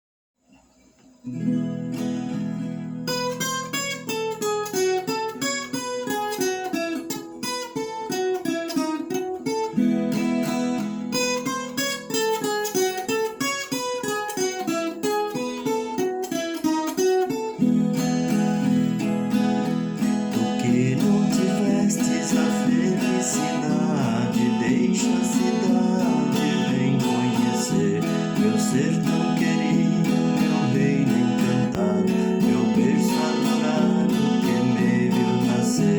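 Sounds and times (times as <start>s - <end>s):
plucked folk guitar melody: 1.2s - 35.9s.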